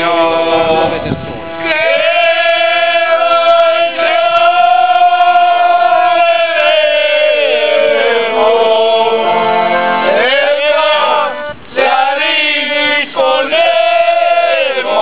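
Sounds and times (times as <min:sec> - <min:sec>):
men singing in unison: 0:00.0 - 0:01.0, 0:01.6 - 0:15.0
accordion: 0:00.0 - 0:15.0.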